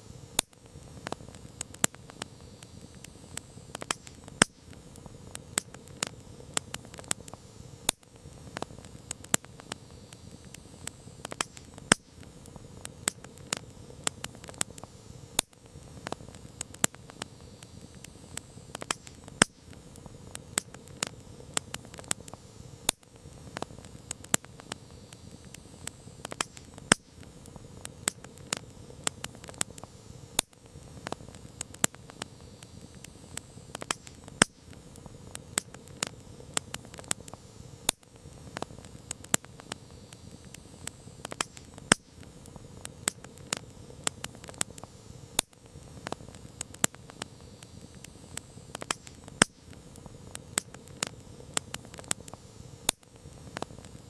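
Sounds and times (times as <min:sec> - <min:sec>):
low hiss of flames: 0:00.0 - 0:54.0
campfire pops and snaps: 0:00.3 - 0:54.0.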